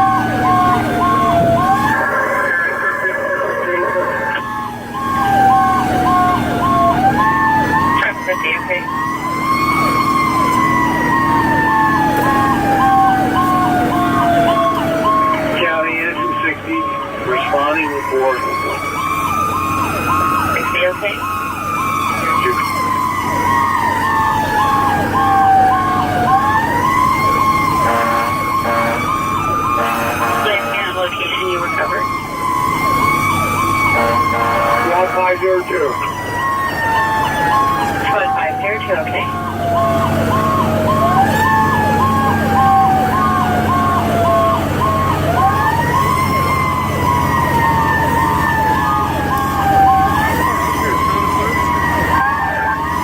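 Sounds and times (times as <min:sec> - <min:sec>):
electronic siren: 0:00.0 - 0:53.0
truck engine droning: 0:00.0 - 0:53.0.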